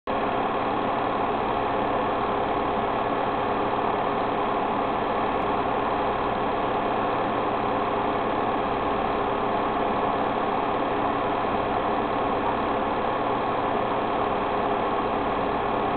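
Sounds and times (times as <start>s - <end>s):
motor hum and whir: 0.1s - 15.9s.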